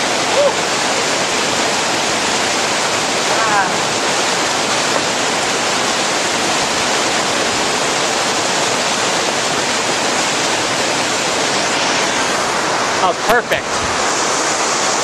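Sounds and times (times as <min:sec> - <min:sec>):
waterfall splashing over boulders: 0:00.0 - 0:15.0.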